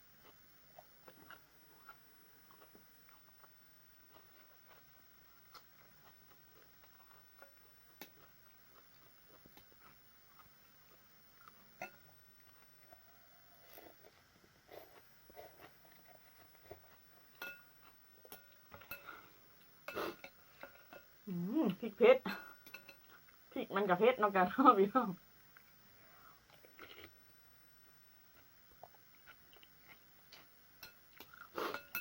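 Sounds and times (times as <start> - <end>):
faint chewing: 0.2 - 21.1, 25.4 - 32.0.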